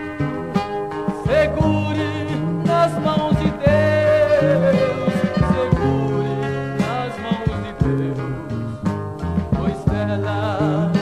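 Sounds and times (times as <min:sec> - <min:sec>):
band playing instrumental music: 0:00.0 - 0:11.0
plucked strings: 0:00.0 - 0:11.0.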